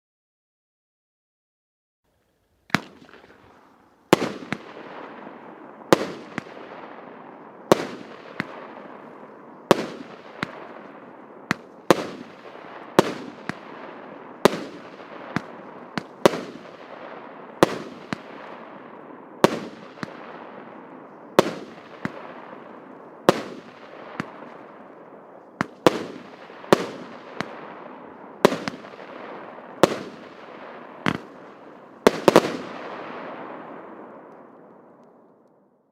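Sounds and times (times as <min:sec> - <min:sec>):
firework bangs: 0:02.7 - 0:34.6.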